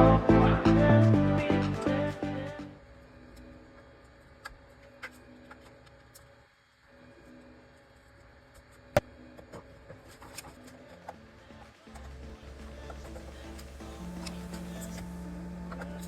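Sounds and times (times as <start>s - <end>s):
quiet steady hum: 0.0s - 16.0s.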